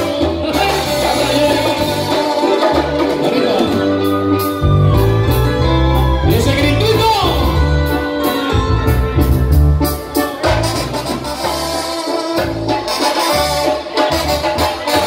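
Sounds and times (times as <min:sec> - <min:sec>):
brass section: 0:00.0 - 0:15.0
drums: 0:00.0 - 0:15.0
heavy bass line: 0:00.0 - 0:15.0
keyboard: 0:00.0 - 0:15.0.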